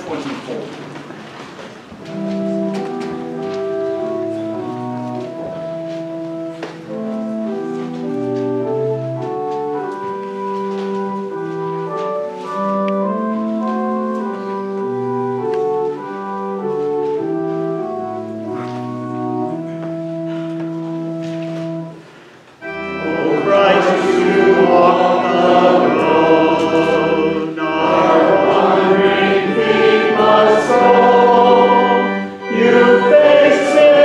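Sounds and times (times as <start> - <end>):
church organ playing chords: 1.9 - 34.0.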